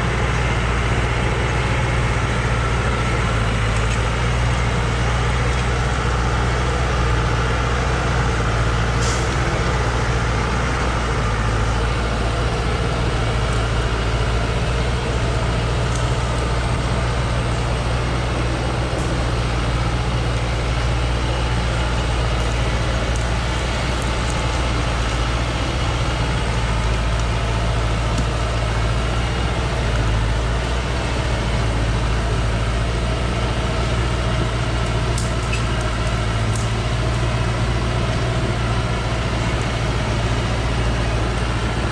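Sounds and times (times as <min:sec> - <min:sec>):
truck engine droning: 0:00.0 - 0:41.9.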